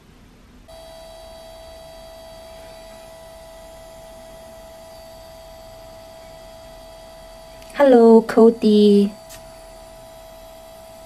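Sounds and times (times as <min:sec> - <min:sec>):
photo printer motor whine: 0:00.7 - 0:11.0.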